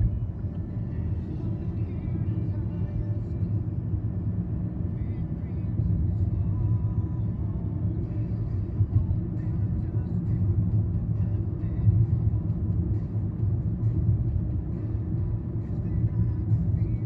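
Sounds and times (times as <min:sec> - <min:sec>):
car road rumble from inside: 0:00.0 - 0:17.0.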